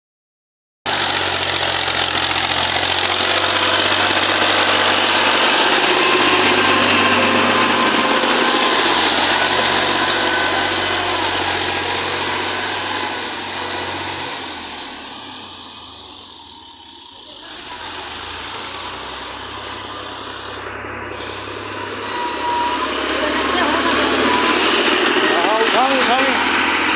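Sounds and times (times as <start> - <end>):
tractor engine running hard: 0.9 - 26.9.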